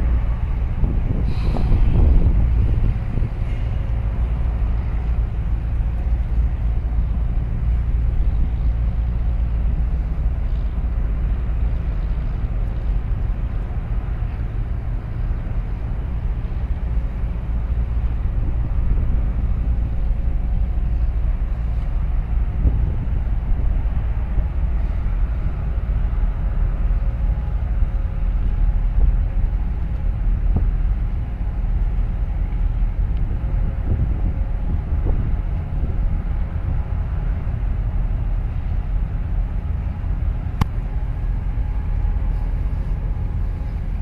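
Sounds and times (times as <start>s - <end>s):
ship engine rumble: 0.0s - 44.0s.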